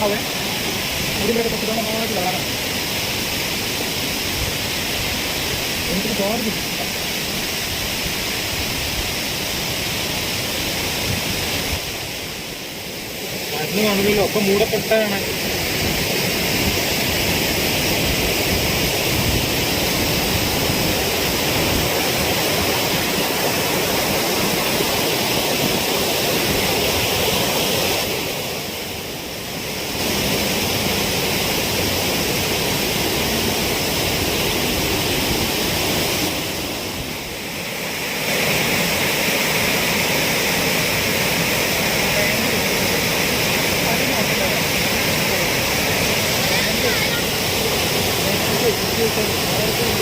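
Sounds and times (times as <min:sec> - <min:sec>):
waterfall rushing water: 0:00.0 - 0:50.0.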